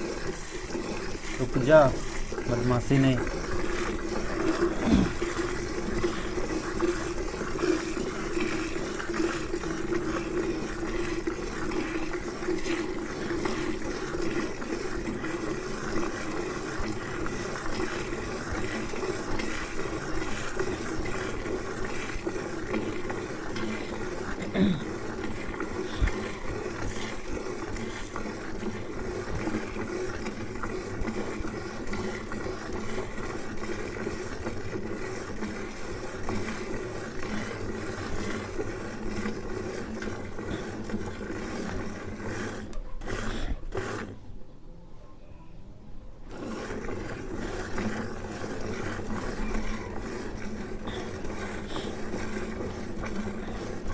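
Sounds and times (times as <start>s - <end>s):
milk squirting into pail: 0.0s - 44.3s, 46.3s - 53.9s.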